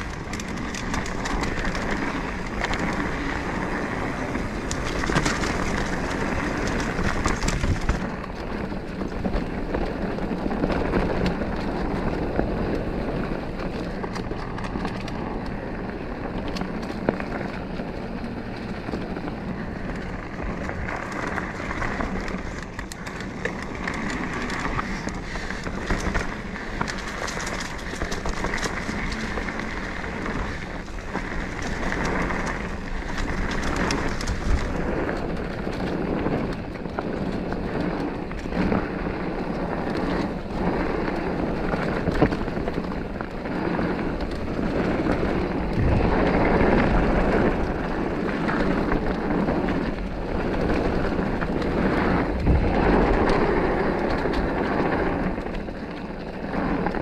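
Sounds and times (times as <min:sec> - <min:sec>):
bike rattling over bumps: 0:00.0 - 0:57.0
tyre and wind rush: 0:00.0 - 0:57.0.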